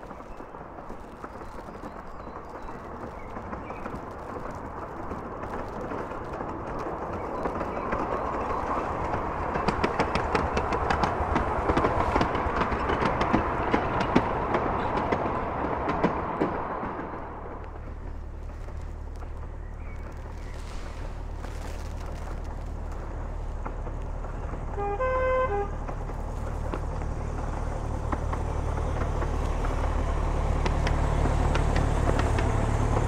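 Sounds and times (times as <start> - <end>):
miniature train passing with clicks: 0.0 - 33.0.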